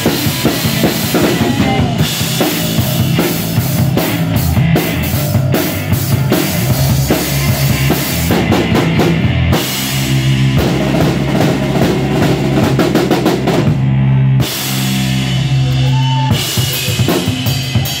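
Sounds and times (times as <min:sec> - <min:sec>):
drum kit playing: 0:00.0 - 0:18.0
electric guitars playing chords: 0:00.0 - 0:18.0.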